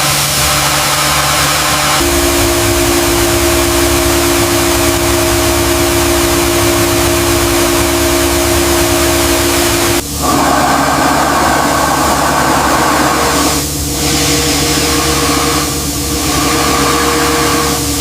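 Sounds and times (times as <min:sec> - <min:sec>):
pressure washer motor hum: 0:00.0 - 0:18.0.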